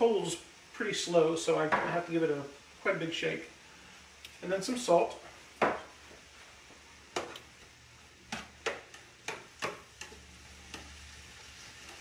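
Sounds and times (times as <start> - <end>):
scallops sizzling in pan: 0.0 - 12.0.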